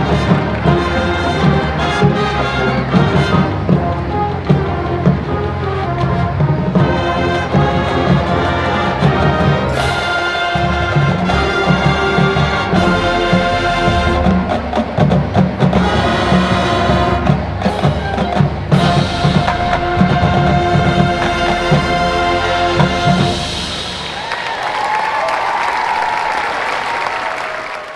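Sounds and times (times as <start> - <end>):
brass chords: 0.0 - 24.5
accented band hits: 0.0 - 25.6
drumline and bass drums: 0.0 - 26.3.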